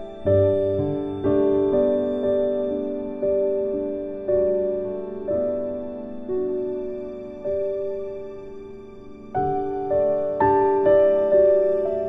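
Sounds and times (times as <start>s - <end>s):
soft keyboard chords: 0.0s - 12.0s.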